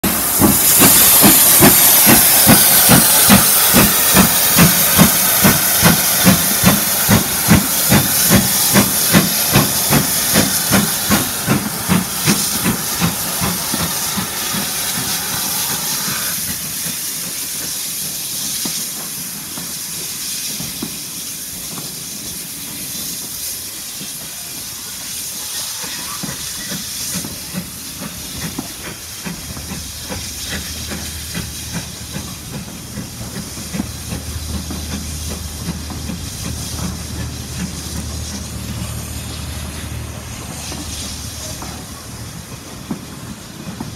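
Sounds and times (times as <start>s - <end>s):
loud hiss of steam: 0.0s - 43.9s
steam locomotive chuffing: 0.0s - 43.9s.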